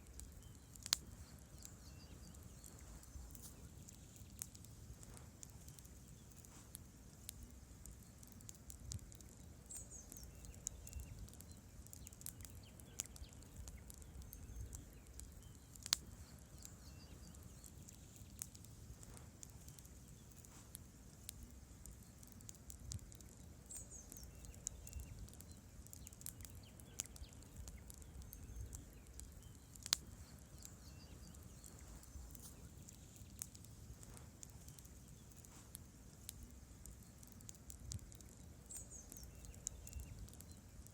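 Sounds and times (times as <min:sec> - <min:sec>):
logs crackling and popping: 0:00.0 - 0:40.9
rumble of campfire flames: 0:00.0 - 0:40.9.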